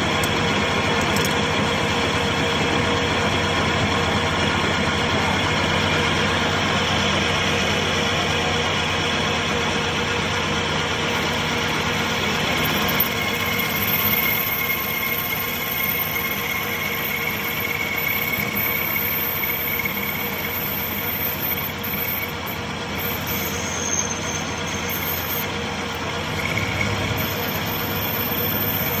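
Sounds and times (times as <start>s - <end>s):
metal lathe humming with high whine: 0.0s - 29.0s.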